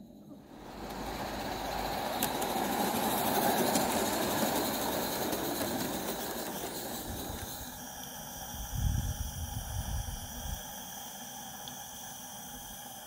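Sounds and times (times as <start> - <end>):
model steam train running past: 0.0 - 13.0.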